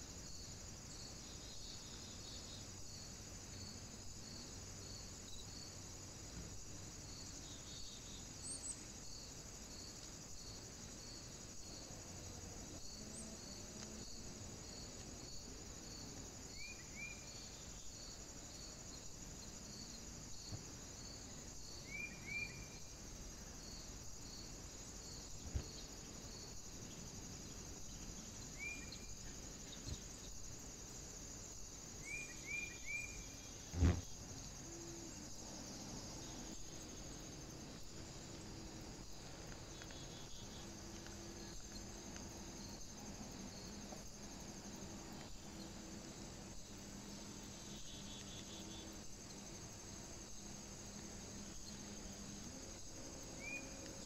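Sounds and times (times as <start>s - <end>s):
steady high hiss: 0.0s - 54.0s.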